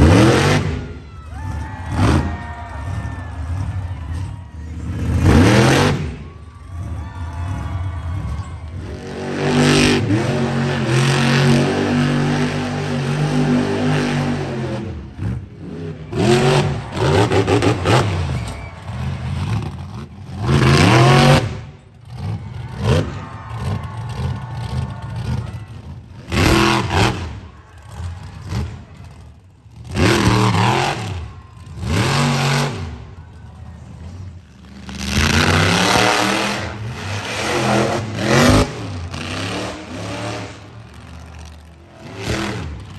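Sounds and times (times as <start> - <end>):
truck engine revving hard: 0.0 - 33.2, 33.8 - 42.9.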